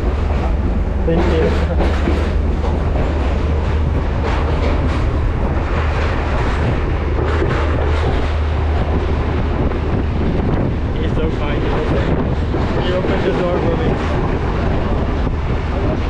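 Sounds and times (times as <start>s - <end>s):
train rumbling: 0.0s - 16.0s
wheels rattling on rails: 0.0s - 16.0s.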